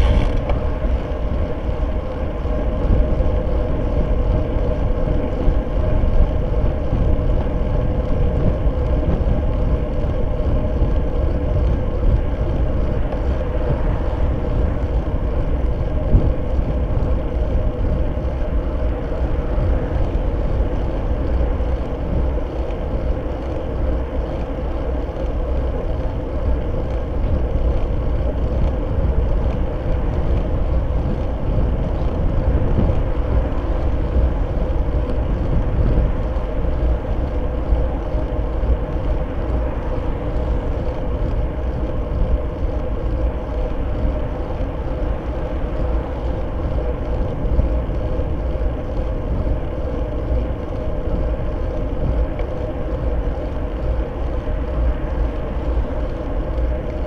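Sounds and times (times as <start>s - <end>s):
road rumble: 0.0s - 57.0s
steady hum: 0.0s - 57.0s
wind rush: 0.0s - 57.0s.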